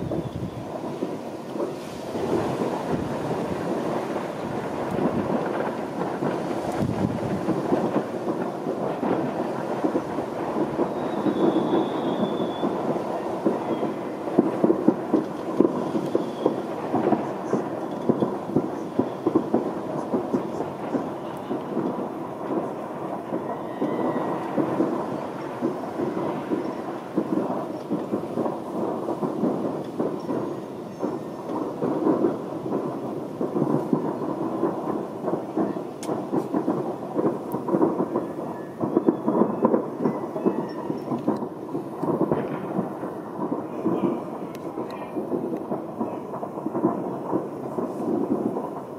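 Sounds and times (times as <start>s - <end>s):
distant fireworks rumble: 0.0s - 48.9s.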